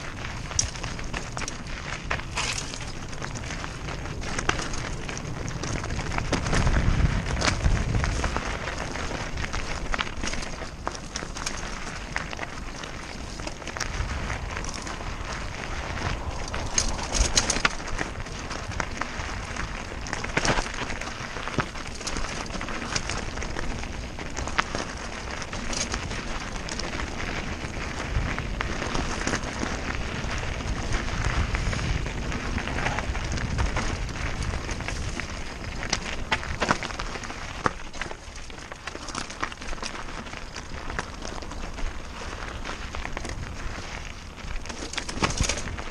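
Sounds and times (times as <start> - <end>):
bike knocking against rocks: 0.0 - 45.9
bike tyres crunching over gravel: 0.0 - 45.9.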